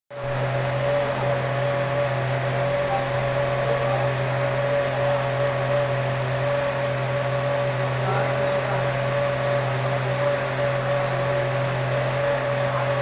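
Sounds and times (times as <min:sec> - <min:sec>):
lathe machine hum: 0:00.1 - 0:13.0
constant whine: 0:00.2 - 0:13.0.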